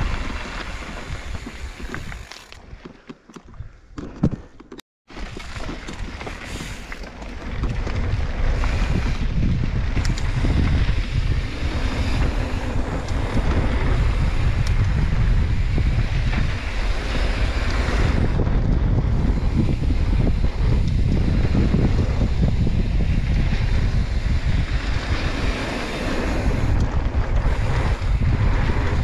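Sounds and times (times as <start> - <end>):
wind rushing over microphone: 0.0 - 2.8, 7.4 - 29.0.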